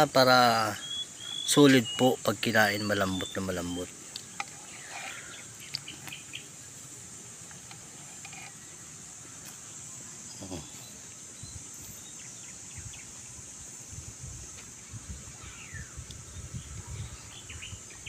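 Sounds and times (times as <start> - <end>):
crickets droning: 0.0 - 18.0
faint insect chirps: 0.0 - 18.0.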